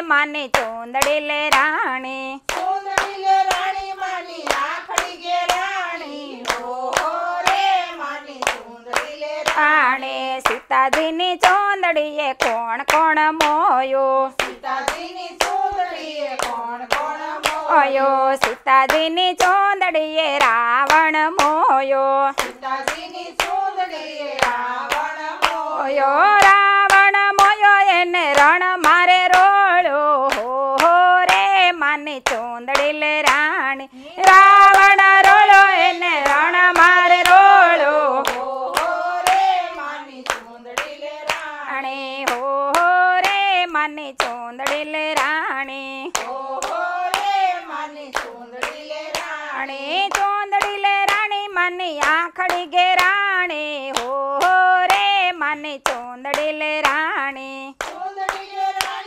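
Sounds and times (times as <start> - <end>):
women singing together: 0.0 - 59.0
hand clapping in time: 0.4 - 13.7, 14.4 - 21.7, 22.3 - 29.6, 30.3 - 33.6, 34.2 - 49.4, 50.0 - 59.0.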